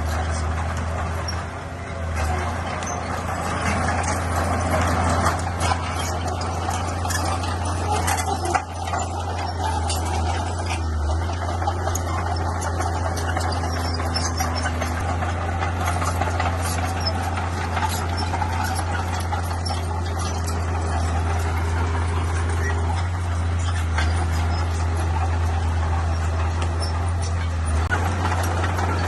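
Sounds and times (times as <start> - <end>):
bulldozer diesel engine: 0.0 - 29.0
metallic clanks: 0.0 - 29.0.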